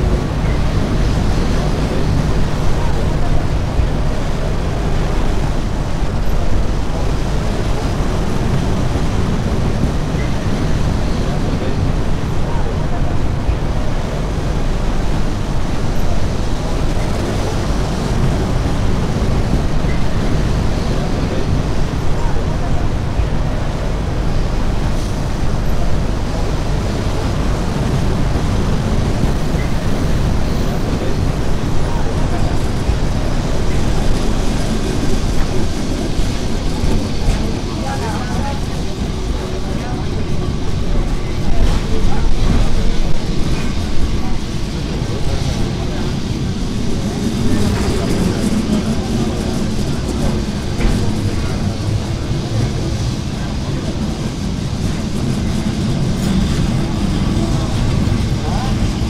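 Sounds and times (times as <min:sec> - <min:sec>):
tram rumbling on rails: 0:00.0 - 0:59.0.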